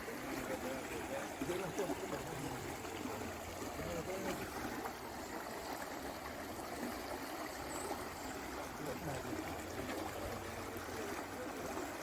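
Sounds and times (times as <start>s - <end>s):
faint distant voices: 0.0s - 5.8s, 7.4s - 12.0s
stream water rushing: 0.0s - 12.0s.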